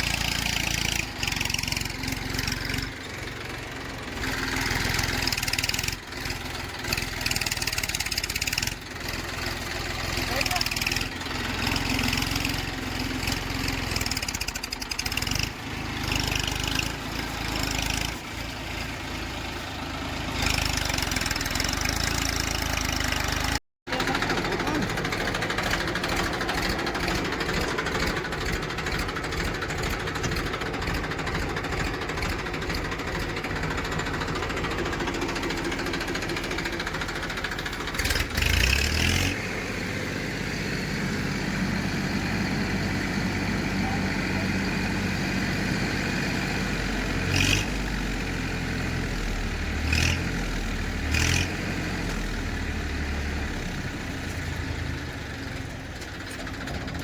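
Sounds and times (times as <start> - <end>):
diesel engine running: 0.0 - 57.0
engine noise bursts: 0.0 - 57.0.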